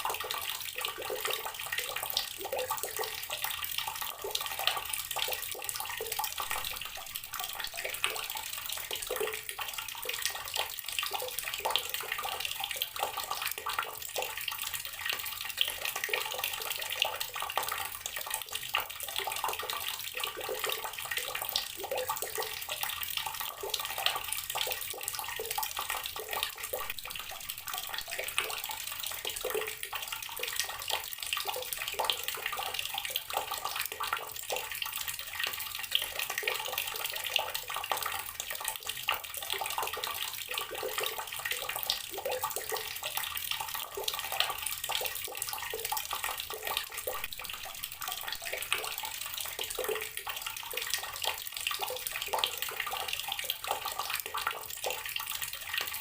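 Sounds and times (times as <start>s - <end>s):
tap water pouring into container: 0.0s - 56.0s.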